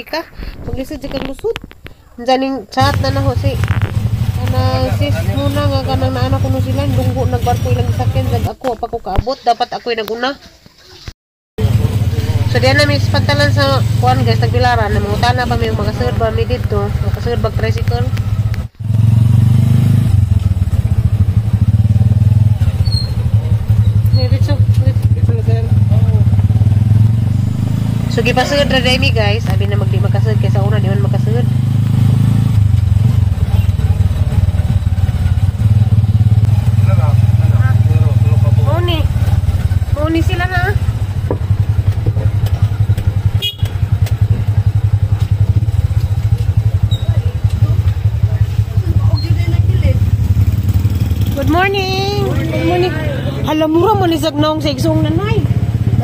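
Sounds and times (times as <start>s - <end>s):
small motorcycle engine running: 2.8s - 8.5s, 11.6s - 56.0s.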